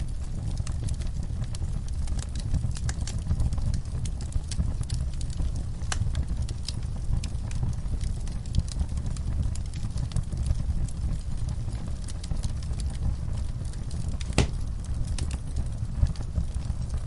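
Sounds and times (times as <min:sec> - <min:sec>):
fireplace flames rumbling: 0:00.0 - 0:17.0
logs crackling and popping: 0:00.0 - 0:17.0.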